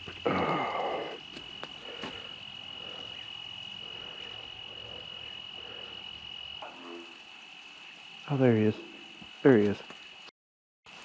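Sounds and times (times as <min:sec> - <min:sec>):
crickets trilling: 0:00.0 - 0:10.3.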